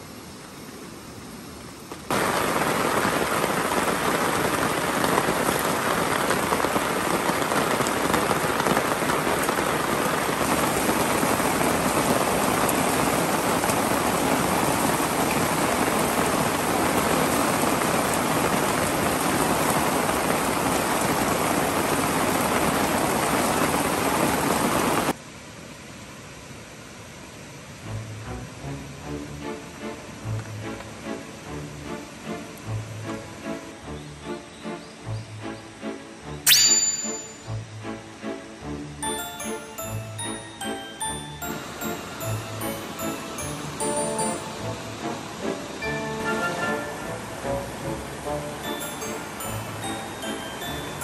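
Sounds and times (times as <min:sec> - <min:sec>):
heavy rain on tarp: 0:00.0 - 0:51.0.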